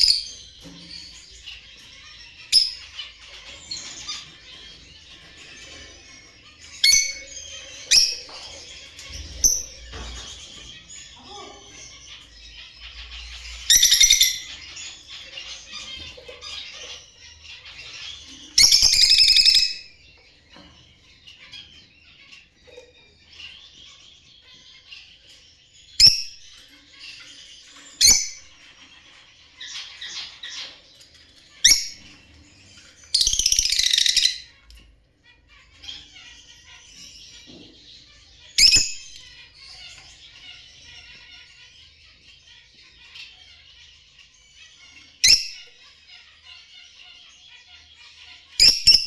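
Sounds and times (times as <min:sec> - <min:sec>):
lovebirds chattering: 0:00.0 - 0:49.0.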